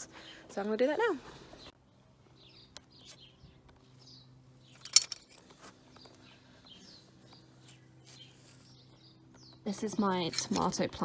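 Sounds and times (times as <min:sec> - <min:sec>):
small birds chirping: 0:01.4 - 0:11.0.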